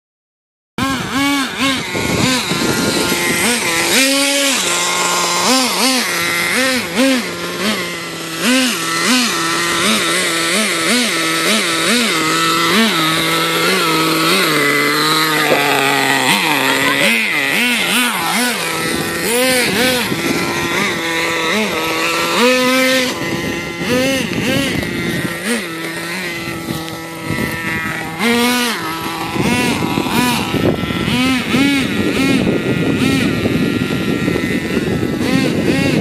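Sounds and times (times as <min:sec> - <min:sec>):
toy truck motor revving: 0:00.8 - 0:36.0.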